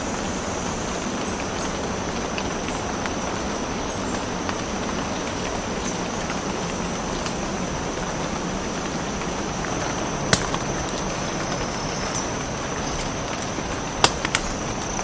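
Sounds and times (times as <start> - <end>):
steady hiss: 0.0 - 15.0
thin high insect drone: 0.0 - 15.0.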